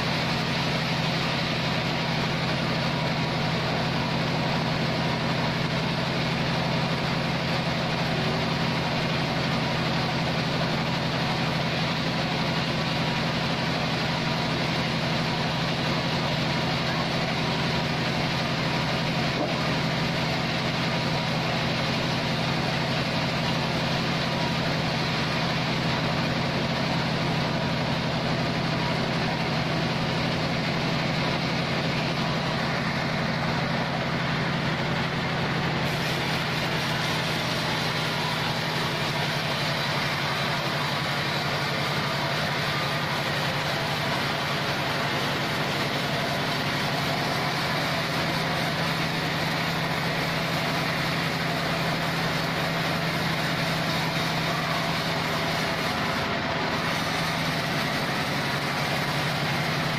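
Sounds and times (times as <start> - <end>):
sawmill machine hum: 0.0 - 59.9.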